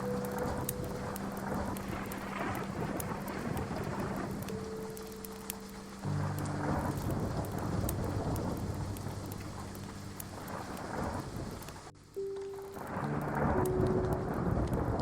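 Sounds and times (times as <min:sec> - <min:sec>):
deep rolling thunder: 0:00.0 - 0:05.1, 0:06.0 - 0:11.9, 0:12.8 - 0:15.0
steady rain: 0:00.0 - 0:15.0.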